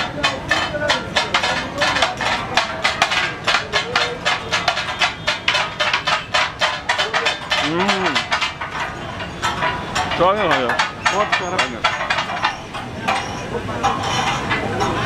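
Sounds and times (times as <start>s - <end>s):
metal spatulas clanking on hot plate: 0.0s - 15.0s.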